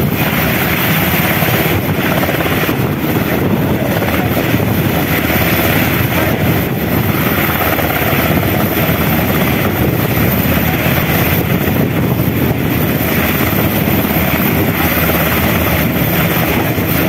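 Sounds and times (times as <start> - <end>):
helicopter rotor thrum: 0.0 - 17.0
helicopter turbine noise: 0.0 - 17.0.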